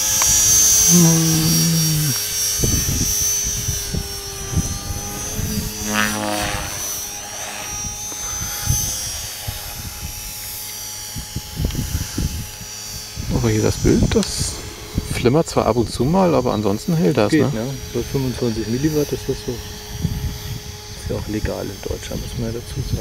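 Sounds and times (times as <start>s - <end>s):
rc helicopter rotor whine: 0.0s - 23.0s
wind buffeting microphone: 0.0s - 23.0s.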